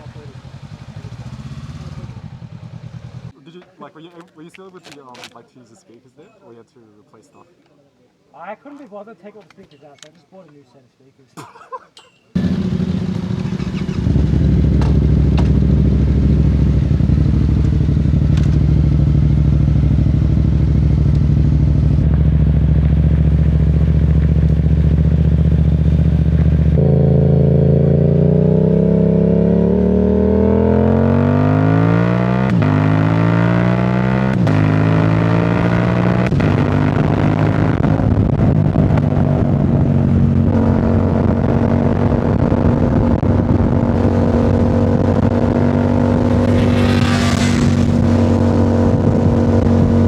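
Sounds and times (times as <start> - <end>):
motorcycle engine revving with upshifts: 0.0 - 3.4, 12.4 - 50.0.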